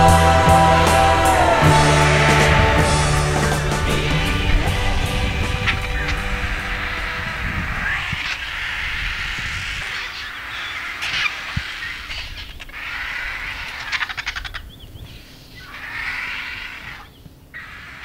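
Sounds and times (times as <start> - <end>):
vultures hissing and screeching: 0.0 - 18.0.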